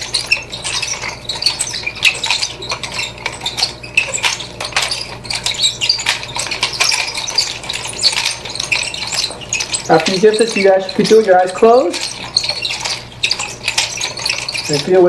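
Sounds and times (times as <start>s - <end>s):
nunchaku chain clinking: 0.0s - 15.0s.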